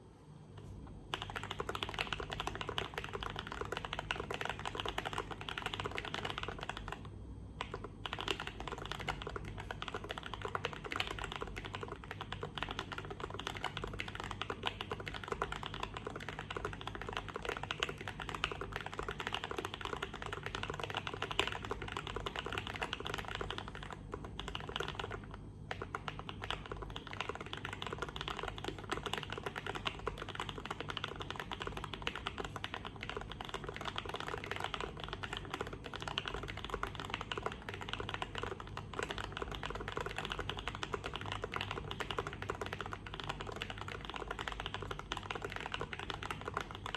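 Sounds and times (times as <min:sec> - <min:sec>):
mechanical keyboard typing: 0:01.1 - 0:46.9.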